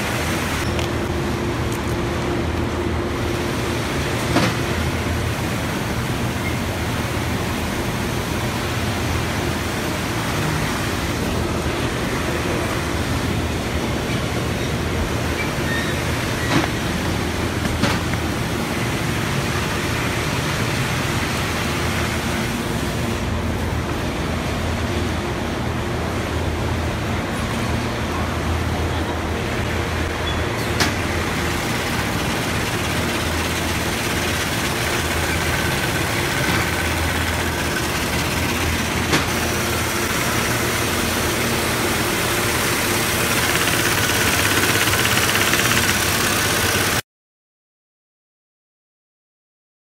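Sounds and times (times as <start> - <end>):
factory machinery hum: 0.0 - 47.0.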